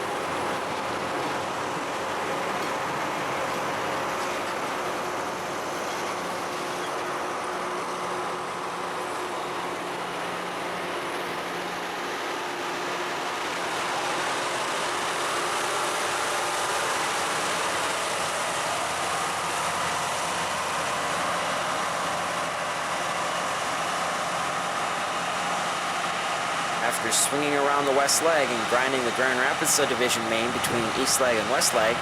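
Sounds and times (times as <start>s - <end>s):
diesel engines humming: 0.0s - 32.0s
grinding stones rushing on rail: 0.0s - 32.0s.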